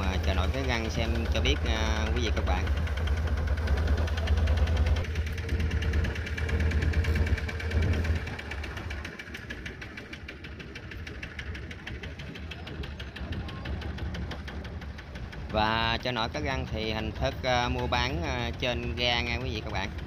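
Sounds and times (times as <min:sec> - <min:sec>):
boat engine knocking: 0:00.0 - 0:20.0.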